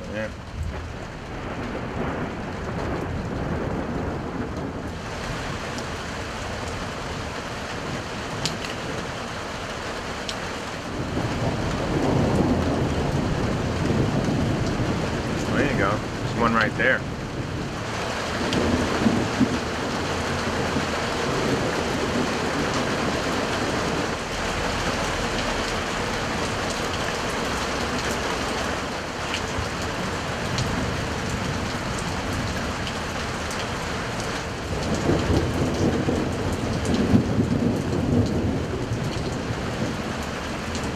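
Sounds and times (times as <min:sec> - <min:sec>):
thunder rumbling: 0:00.0 - 0:09.4, 0:10.8 - 0:40.9
rain falling steadily: 0:00.0 - 0:40.9.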